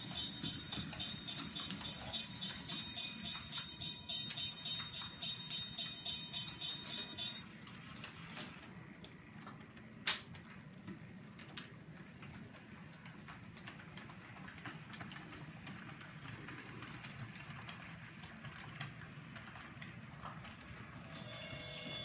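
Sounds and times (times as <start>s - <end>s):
wheels clicking over rails: 0.0s - 22.0s.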